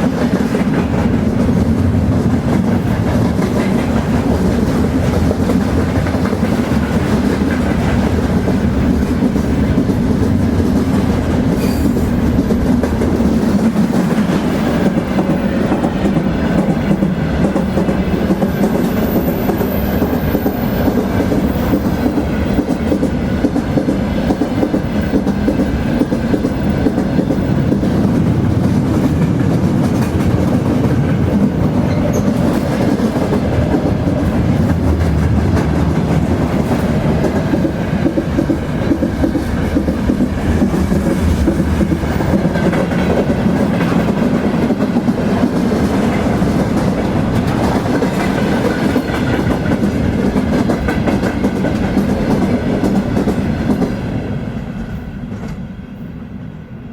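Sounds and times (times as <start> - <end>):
train rumbling on track: 0.0 - 56.9.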